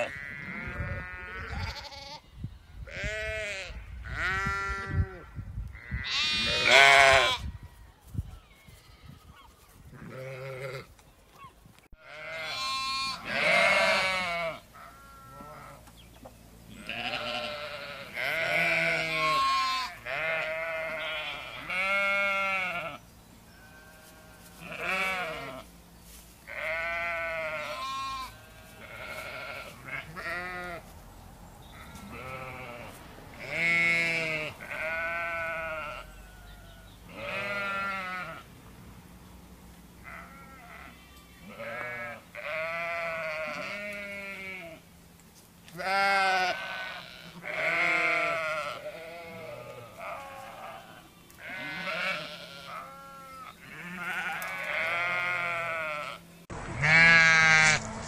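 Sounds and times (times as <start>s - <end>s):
sheep bleating: 0.0s - 2.2s, 2.9s - 7.5s, 10.0s - 10.9s, 12.0s - 15.8s, 16.7s - 25.7s, 26.5s - 30.8s, 31.7s - 38.4s, 40.0s - 44.8s, 45.7s - 57.8s.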